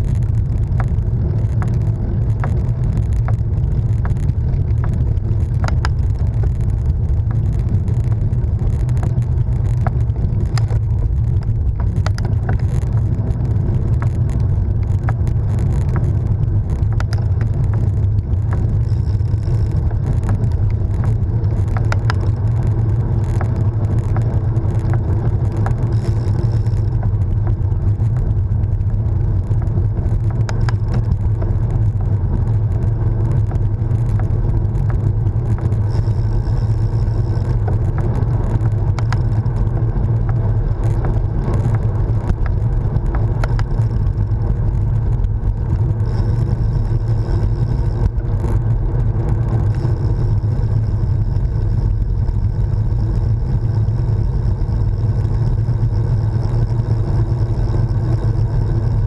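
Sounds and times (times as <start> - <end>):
faint clicks: 0.0 - 59.0
tyre and road noise: 0.0 - 59.0
wind buffeting microphone: 0.0 - 59.0.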